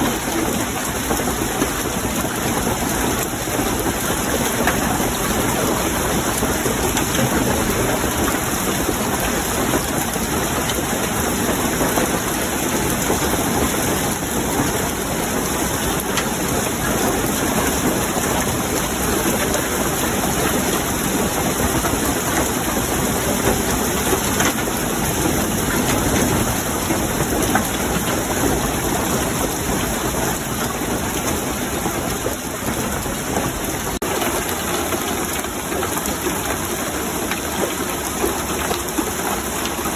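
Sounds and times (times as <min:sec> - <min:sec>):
hail rattling: 0:00.0 - 0:39.9.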